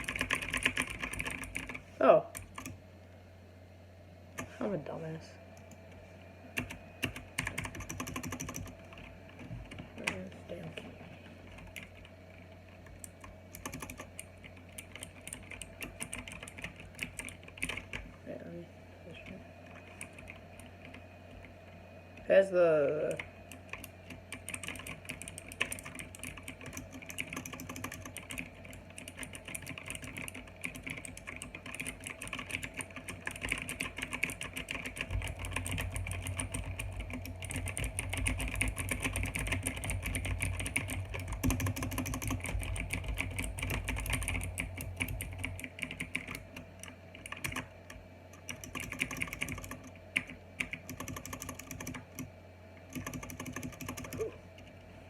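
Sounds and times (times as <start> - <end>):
typing on mechanical keyboard: 0.0 - 1.8, 2.4 - 2.8, 6.6 - 10.8, 11.5 - 12.1, 12.7 - 18.1, 19.7 - 21.5, 23.5 - 52.3, 52.9 - 54.4.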